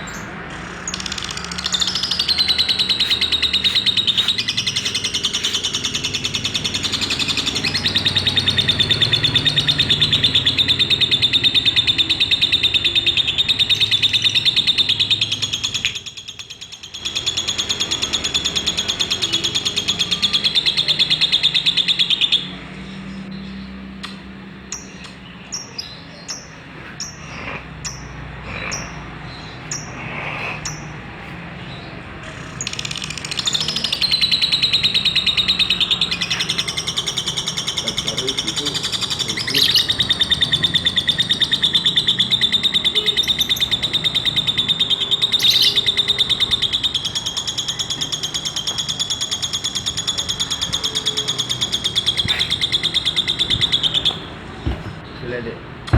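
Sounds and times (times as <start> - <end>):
soft bird chirps: 0.0 - 55.9
lovebird chattering trill: 0.1 - 22.5, 24.8 - 54.7.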